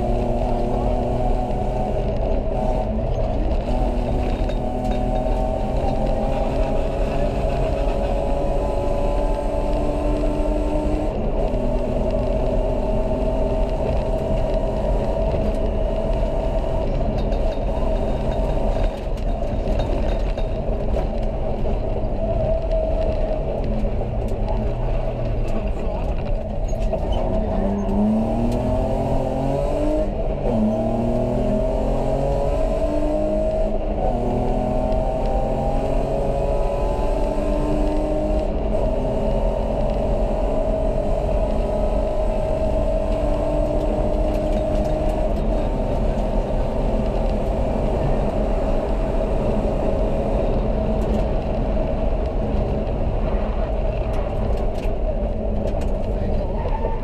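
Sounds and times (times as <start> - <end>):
car engine revving at full throttle: 0.0 - 57.0.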